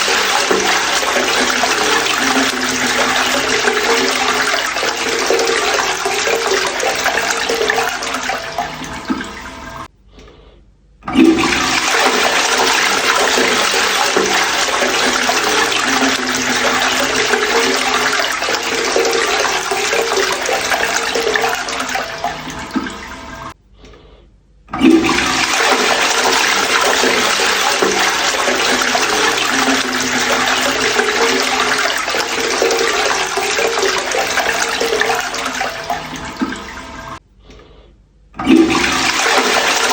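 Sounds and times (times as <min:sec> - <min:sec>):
toilet flushing: 0:00.0 - 0:09.9, 0:11.0 - 0:23.6, 0:24.7 - 0:37.2, 0:38.4 - 0:39.9.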